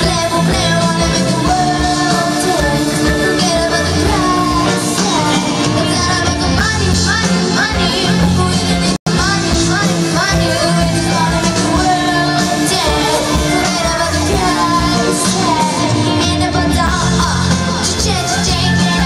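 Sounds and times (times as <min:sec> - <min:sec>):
person singing: 0:00.0 - 0:19.0
pop-rock band playing: 0:00.0 - 0:19.0.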